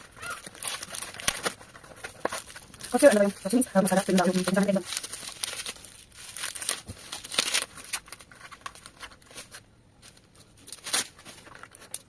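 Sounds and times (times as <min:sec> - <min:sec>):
loud packaging rip: 0:00.0 - 0:03.1, 0:04.0 - 0:09.6, 0:10.6 - 0:12.0
packaging crinkling and tearing: 0:00.0 - 0:12.0.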